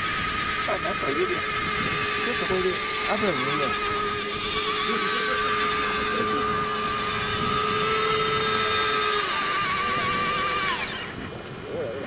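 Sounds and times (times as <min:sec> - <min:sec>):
electric mechanism whining: 0:00.0 - 0:12.0.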